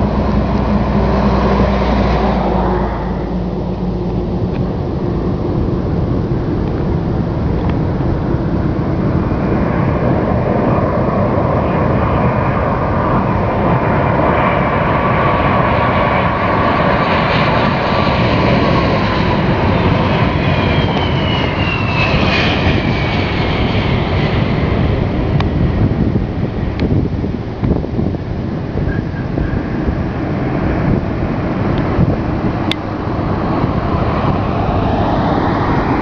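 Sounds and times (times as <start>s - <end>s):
jet engine whine: 0.0s - 36.0s
jet engines roaring: 0.0s - 36.0s.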